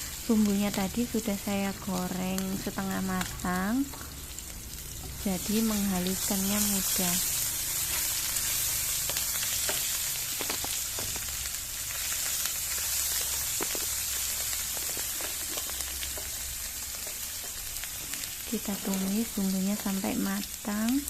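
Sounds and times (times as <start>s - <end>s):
spice paste sizzling in oil: 0.0s - 21.0s.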